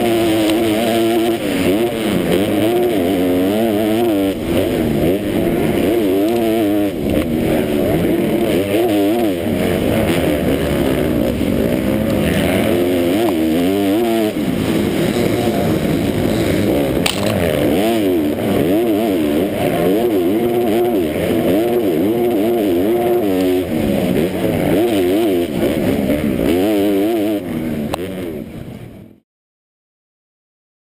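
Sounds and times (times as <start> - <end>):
motocross bike engine revving: 0.0 - 29.1.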